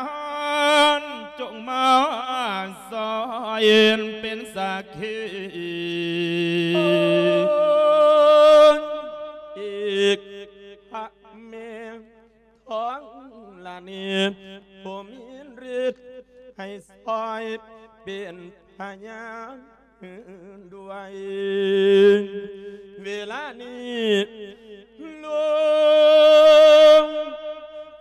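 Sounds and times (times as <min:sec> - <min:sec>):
monk chanting with vibrato: 0:00.0 - 0:28.0.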